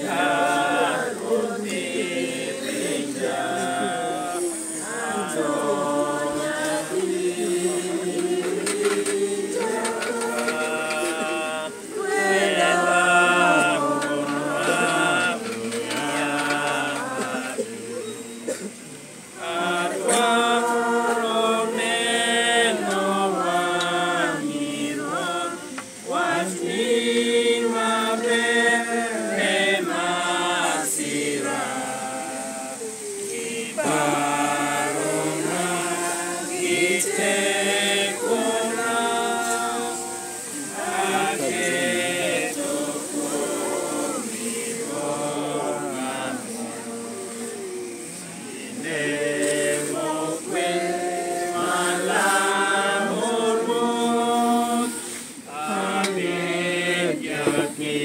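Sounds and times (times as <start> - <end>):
crowd singing a hymn: 0.0 - 58.0.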